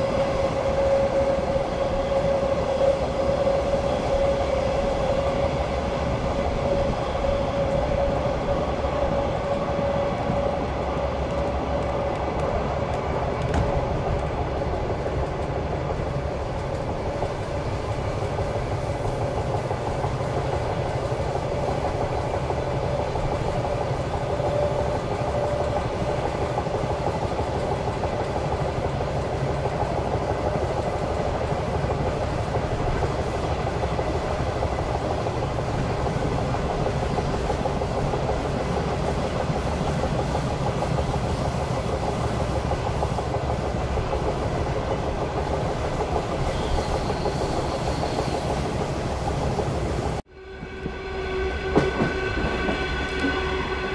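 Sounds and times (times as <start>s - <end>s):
train wheels rattling on rails: 0.0s - 53.9s.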